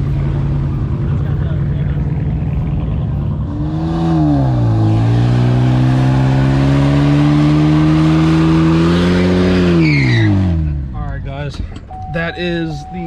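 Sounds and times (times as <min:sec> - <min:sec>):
car engine at raised revs: 0:00.0 - 0:13.0.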